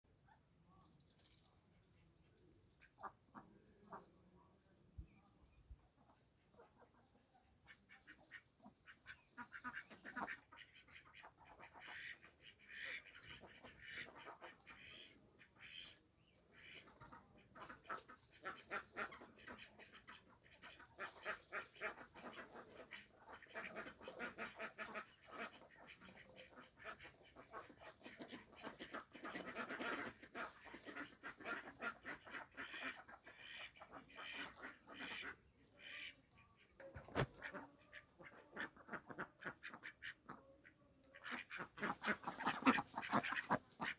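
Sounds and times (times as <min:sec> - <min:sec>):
ducks quacking: 0:02.7 - 0:04.3, 0:05.8 - 0:43.9.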